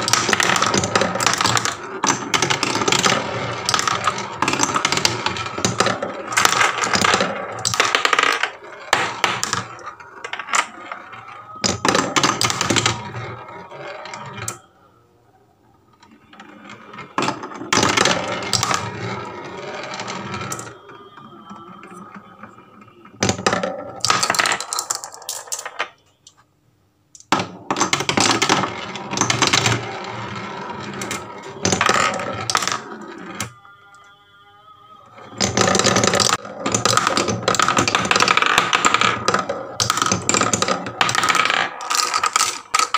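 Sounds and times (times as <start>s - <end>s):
marbles rolling on wooden track: 0.0s - 14.7s, 15.9s - 26.0s, 27.2s - 33.6s, 35.1s - 42.9s.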